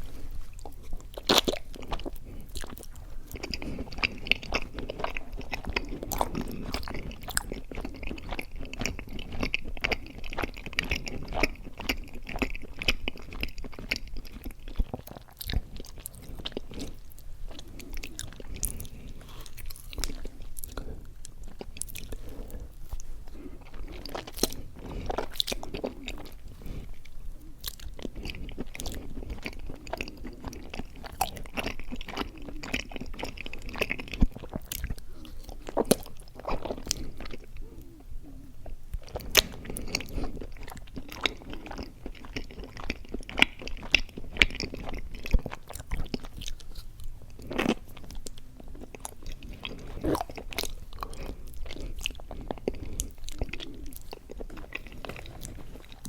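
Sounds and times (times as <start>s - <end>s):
close-miked chewing: 0.0s - 56.0s.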